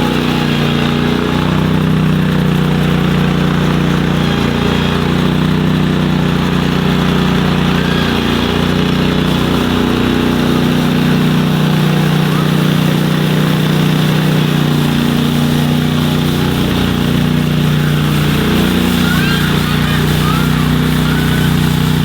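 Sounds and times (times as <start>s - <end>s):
snow machine engine running: 0.0s - 22.0s.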